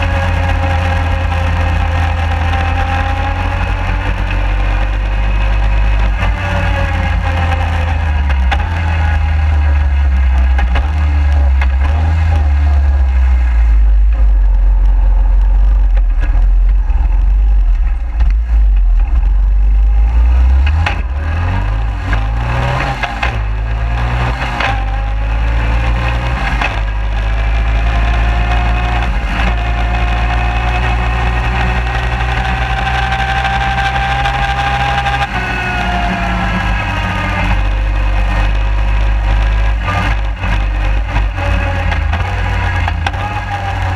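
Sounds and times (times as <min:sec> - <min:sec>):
quad bike engine running: 0:00.0 - 0:43.9
wind and vibration rumble: 0:00.0 - 0:43.9.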